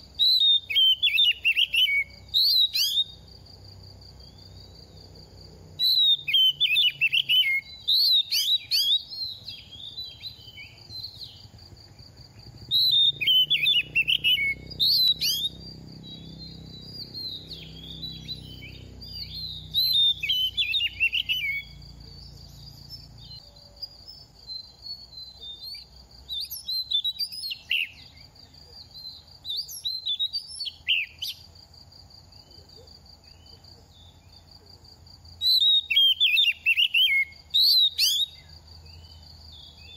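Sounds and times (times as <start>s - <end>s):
bird singing whistles and chirps: 0.0s - 3.3s, 5.8s - 11.6s, 12.4s - 31.5s, 35.4s - 39.9s.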